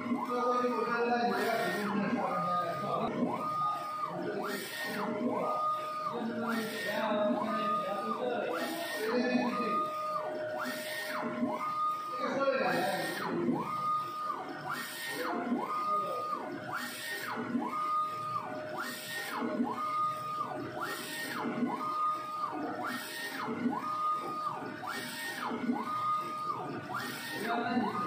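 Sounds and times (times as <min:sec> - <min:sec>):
printer carriage drive whining: 0:00.0 - 0:28.0.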